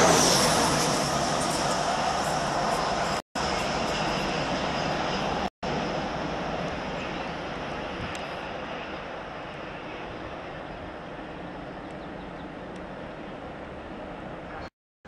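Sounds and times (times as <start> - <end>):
train passing at speed: 0.0 - 14.7.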